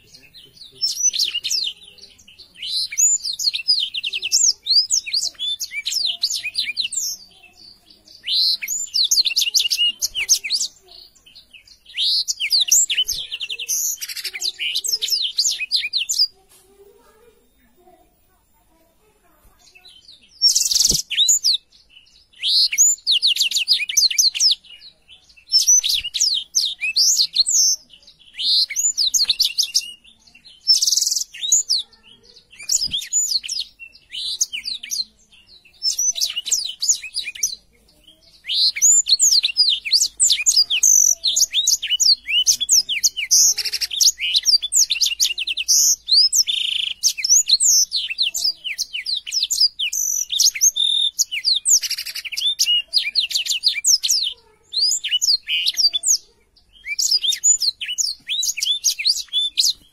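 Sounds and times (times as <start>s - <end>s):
bird singing trills and chirps: 0.0s - 59.9s.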